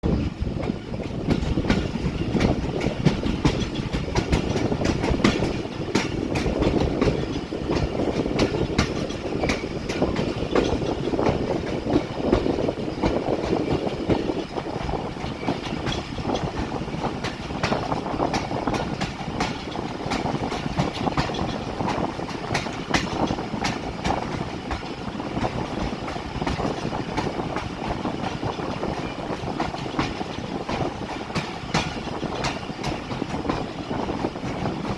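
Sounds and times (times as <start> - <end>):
clickety-clack over rail joints: 0.0 - 34.9
train wheels rumbling: 0.0 - 34.9.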